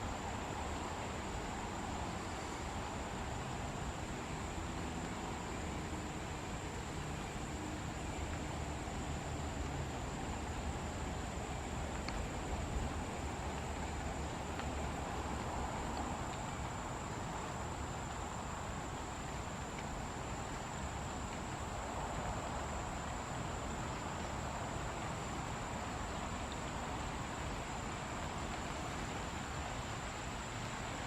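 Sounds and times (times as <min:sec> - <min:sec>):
insect chorus drone: 0:00.0 - 0:31.0
soft background hiss: 0:00.0 - 0:31.0.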